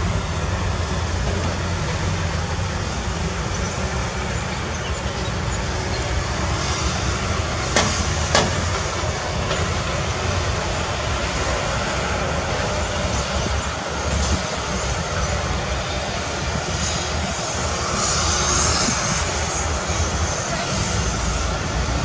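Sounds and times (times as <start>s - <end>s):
diesel earthmoving machinery running: 0.0s - 22.0s.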